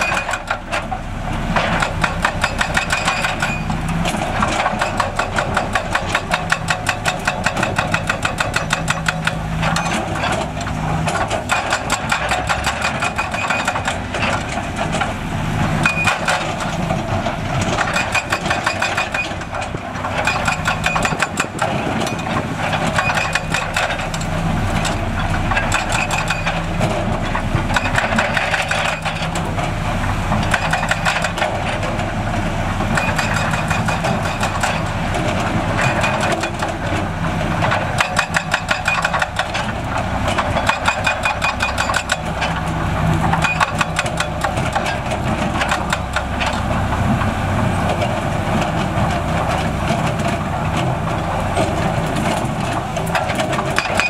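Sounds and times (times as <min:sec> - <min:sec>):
diesel construction machinery clattering: 0:00.0 - 0:54.0.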